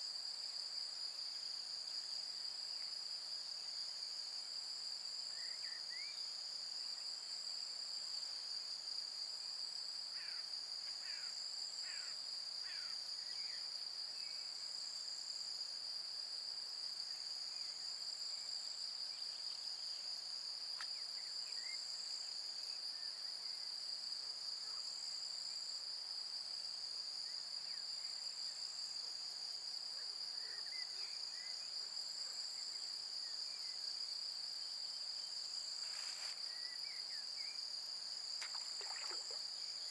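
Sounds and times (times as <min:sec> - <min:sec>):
insect chorus trilling: 0:00.0 - 0:39.9.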